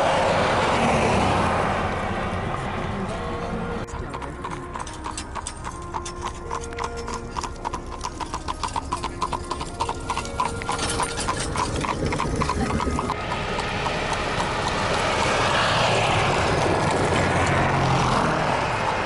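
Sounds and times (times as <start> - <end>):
horse hooves clip-clopping on asphalt: 0.8 - 19.0.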